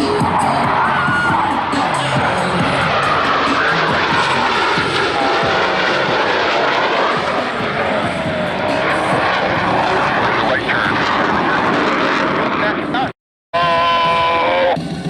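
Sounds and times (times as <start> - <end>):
jets flying overhead: 0.0 - 13.1.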